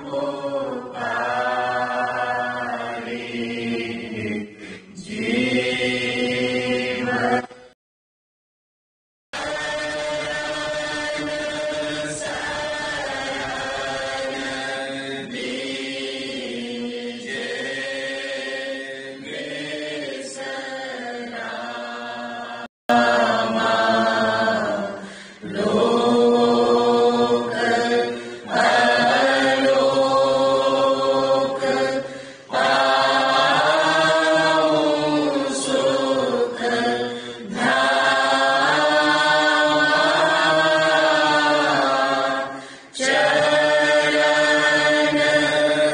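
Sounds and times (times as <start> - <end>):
voices chanting in unison: 0.0 - 7.5, 9.4 - 45.9.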